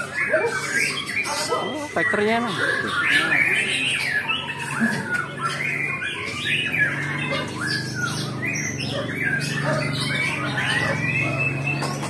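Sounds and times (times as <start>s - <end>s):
songbirds singing and chirping: 0.0s - 12.0s.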